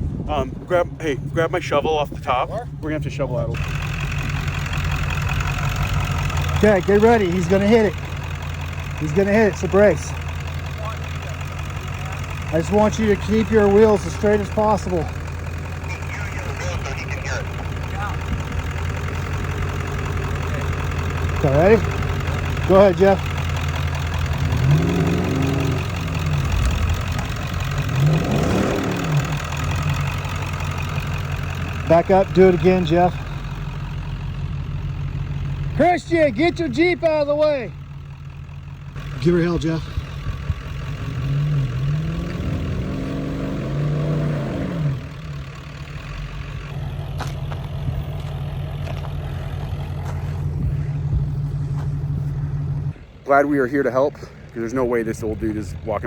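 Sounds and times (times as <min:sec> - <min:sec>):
truck engine drone: 0:00.0 - 0:56.0
truck engine revving: 0:00.0 - 0:56.0.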